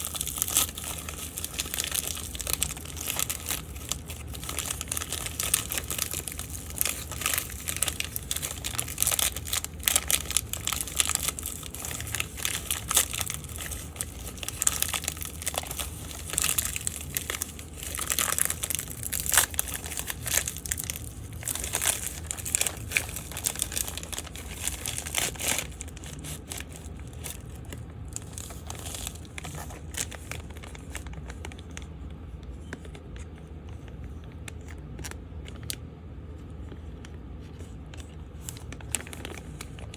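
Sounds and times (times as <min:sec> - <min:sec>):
plastic packaging crinkling: 0:00.0 - 0:31.9, 0:37.4 - 0:39.9.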